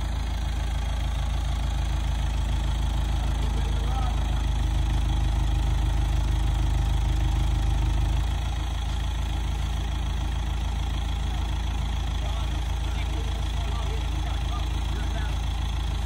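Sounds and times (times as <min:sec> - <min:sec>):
forklift engine idling: 0:00.0 - 0:16.0.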